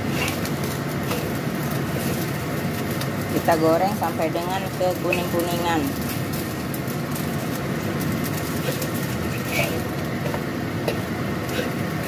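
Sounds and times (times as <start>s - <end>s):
patty sizzling in oil: 0.0s - 12.0s.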